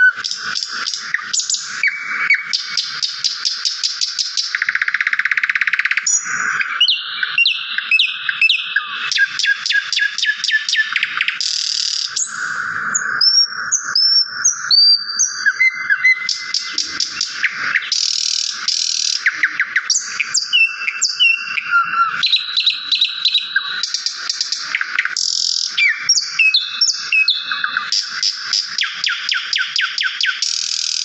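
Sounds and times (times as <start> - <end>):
songbirds chirping and trilling: 0.0 - 31.0.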